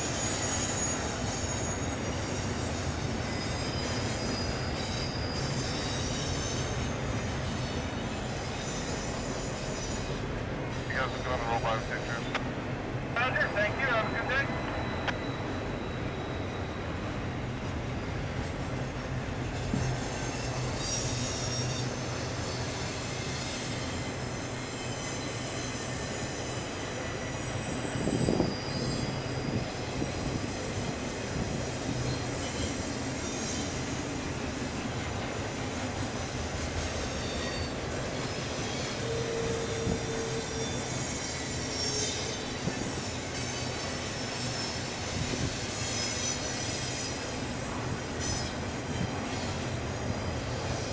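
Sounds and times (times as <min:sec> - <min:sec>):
steel wheels squealing: 0:00.0 - 0:12.3, 0:14.0 - 0:50.9
train cars rumbling: 0:00.0 - 0:50.9.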